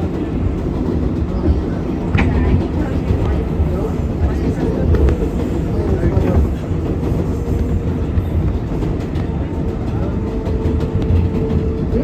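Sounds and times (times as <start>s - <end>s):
wheel-on-rail rumble: 0.0s - 12.0s.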